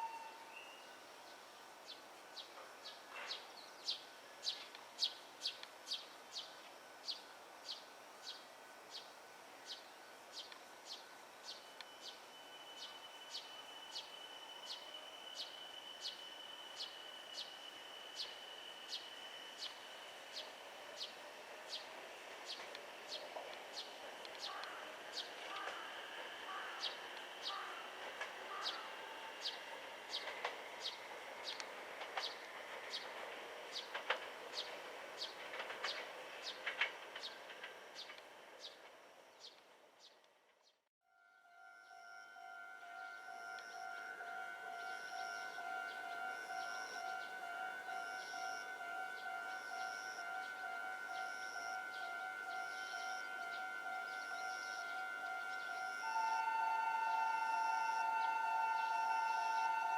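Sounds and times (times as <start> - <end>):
faint high whine: 0.0 - 40.5, 41.1 - 59.9
level-crossing alarm ringing: 6.7 - 39.4, 41.1 - 59.9.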